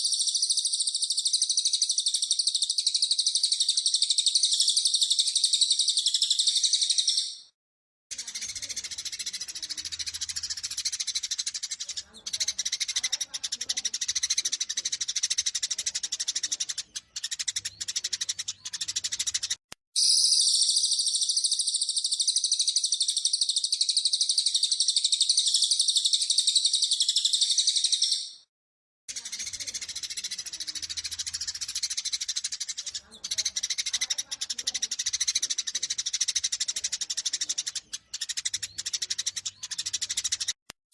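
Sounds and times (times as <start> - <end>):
sparrows chattering: 0.0 - 28.5, 29.1 - 40.6.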